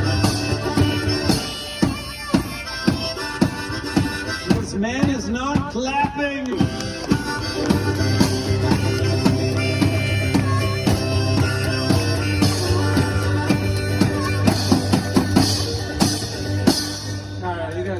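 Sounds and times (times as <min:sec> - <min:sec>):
sustained instrumental tones: 0:00.0 - 0:17.8.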